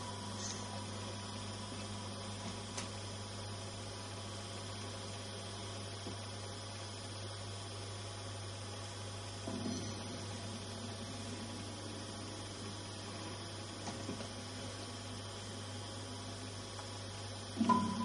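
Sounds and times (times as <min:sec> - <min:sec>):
mains hum with hiss: 0:00.0 - 0:18.0.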